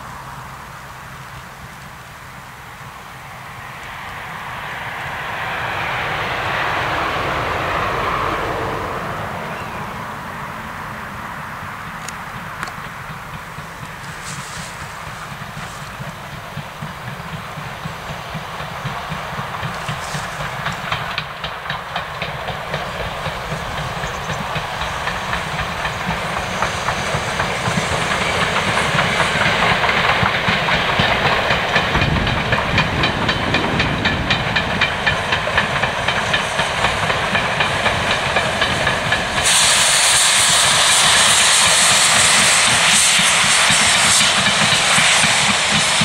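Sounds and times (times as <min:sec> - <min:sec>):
loud sudden steam hiss: 0:00.0 - 0:46.0
steam hiss: 0:00.0 - 0:46.0
steam locomotive chuffing: 0:00.0 - 0:46.0.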